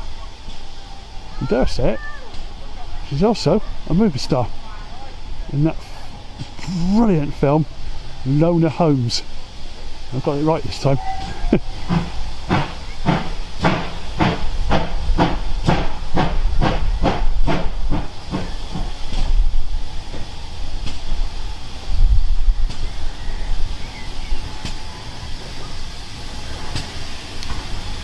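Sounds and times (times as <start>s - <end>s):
steam hissing: 0.0s - 28.0s
steam locomotive exhaust beats: 0.0s - 28.0s.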